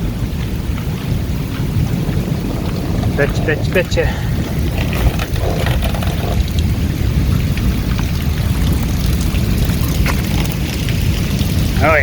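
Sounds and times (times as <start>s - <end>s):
heavy rain hissing: 0.0s - 12.0s
low thunder rumble: 0.0s - 12.0s.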